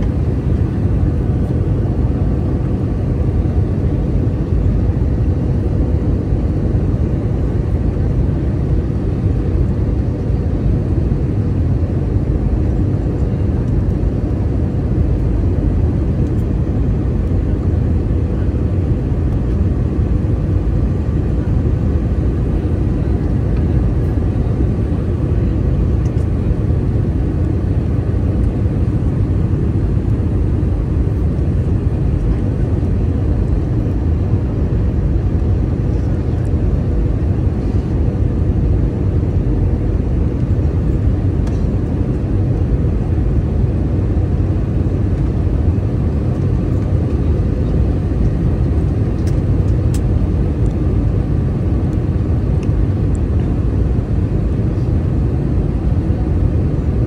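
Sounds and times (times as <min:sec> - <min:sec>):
airplane cabin rumble: 0:00.0 - 0:57.0
faint steady hum: 0:00.0 - 0:57.0.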